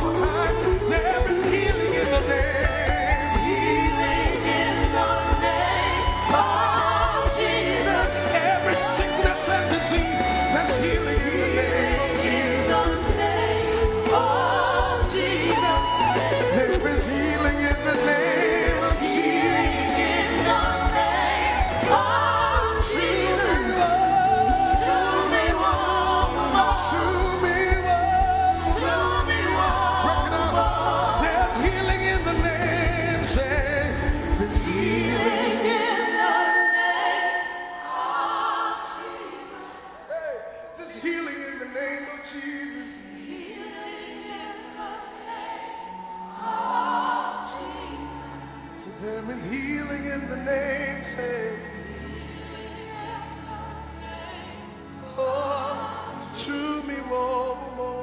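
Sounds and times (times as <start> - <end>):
voices singing with vibrato: 0.0 - 58.0.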